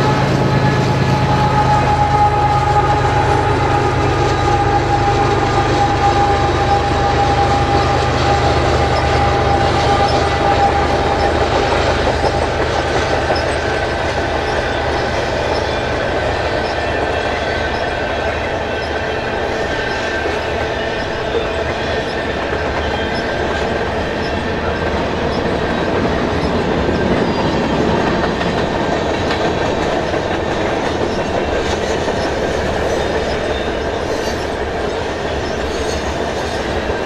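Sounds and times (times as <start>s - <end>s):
diesel locomotive engine rumble: 0.0s - 37.0s
high wheel squeal: 0.0s - 37.0s.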